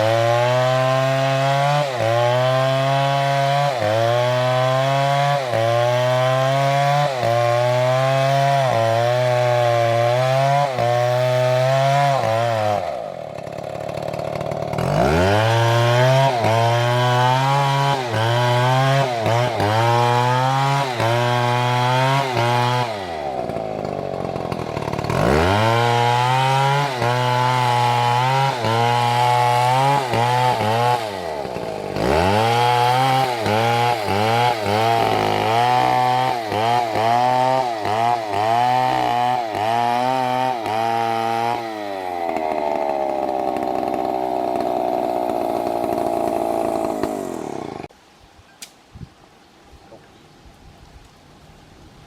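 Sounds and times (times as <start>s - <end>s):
chainsaw revving and cutting wood: 0.0s - 47.9s.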